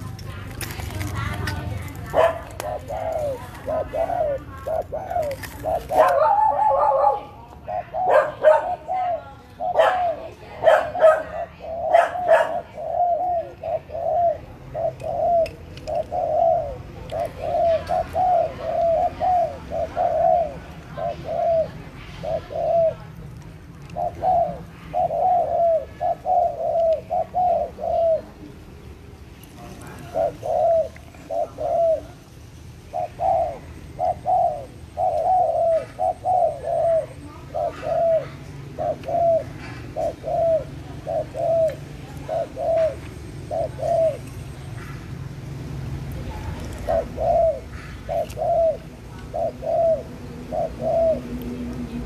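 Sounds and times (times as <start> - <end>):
bird cooing: 0.0 - 28.7, 29.5 - 45.3, 46.2 - 52.0.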